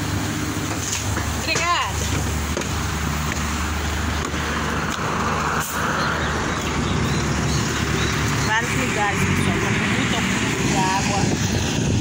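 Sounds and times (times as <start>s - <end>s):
bus engine humming: 0.0s - 11.7s.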